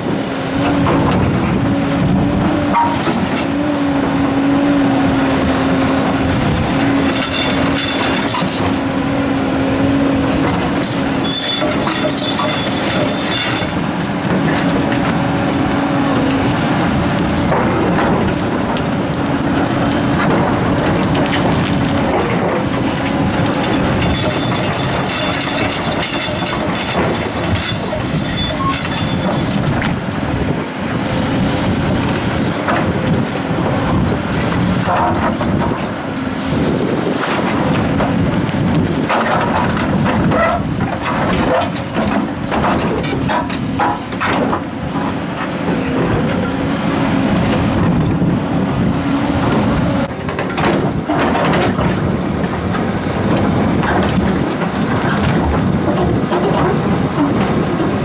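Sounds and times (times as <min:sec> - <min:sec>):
excavator diesel engines running: 0:00.0 - 0:58.0.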